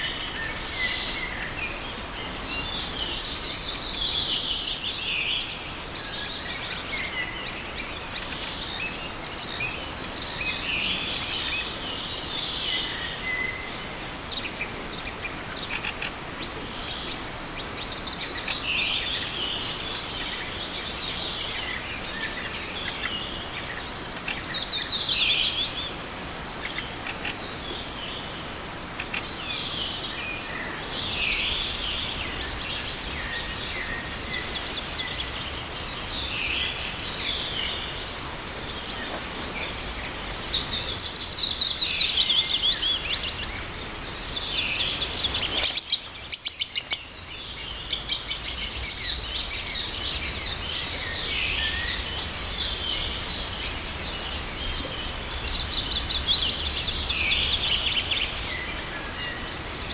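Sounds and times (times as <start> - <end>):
small river rushing: 0.0 - 59.9
songbirds singing: 0.0 - 59.9.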